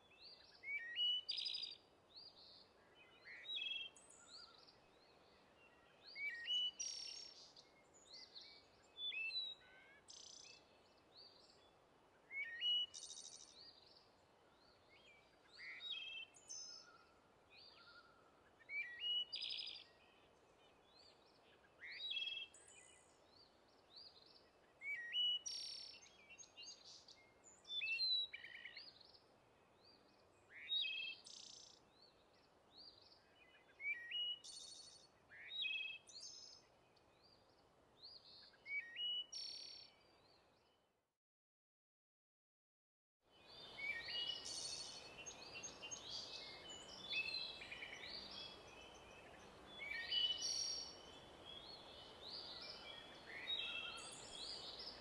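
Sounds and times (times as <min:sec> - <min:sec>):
faint steady hiss: 0:00.0 - 0:40.2, 0:43.3 - 0:55.0
songbird singing: 0:00.0 - 0:40.9, 0:43.3 - 0:55.0.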